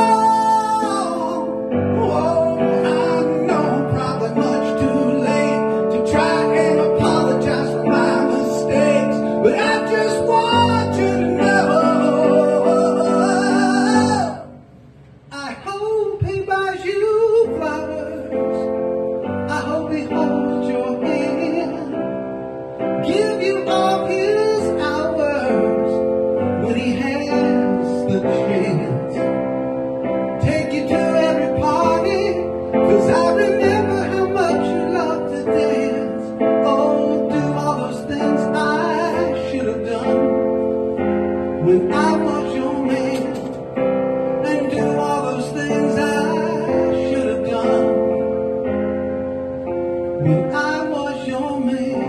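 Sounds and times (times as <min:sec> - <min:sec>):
man singing a slow ballad: 0:00.0 - 0:14.6, 0:15.3 - 0:48.6, 0:50.1 - 0:52.0
electronic keyboard piano chords: 0:00.0 - 0:52.0.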